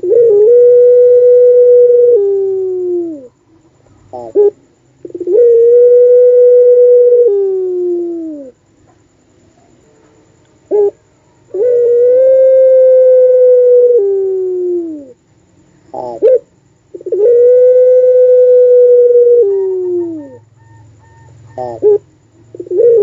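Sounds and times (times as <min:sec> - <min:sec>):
dove cooing: 0:00.0 - 0:08.6, 0:10.7 - 0:15.2, 0:15.9 - 0:23.0.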